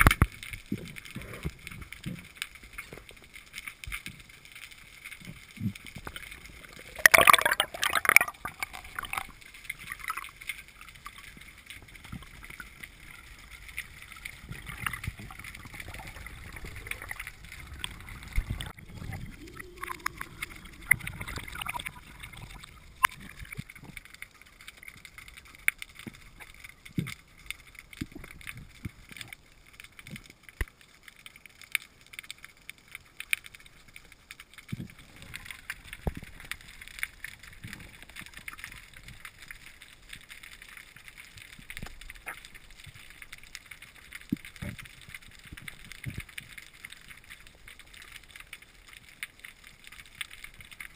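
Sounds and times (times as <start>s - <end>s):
sharp underwater clicks: 0.0s - 50.9s
underwater rushing and gurgling: 0.0s - 50.9s.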